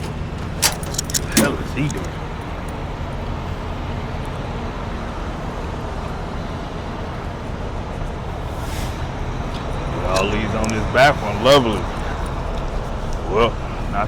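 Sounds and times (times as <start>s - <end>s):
traffic noise: 0.0s - 14.0s
truck engines idling: 0.0s - 14.0s.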